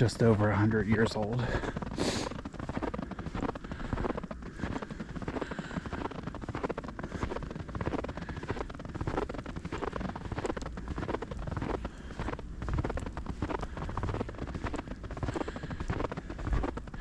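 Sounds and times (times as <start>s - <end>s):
footsteps crunching in snow: 0.0s - 17.0s
wind rumble on microphone: 0.0s - 17.0s.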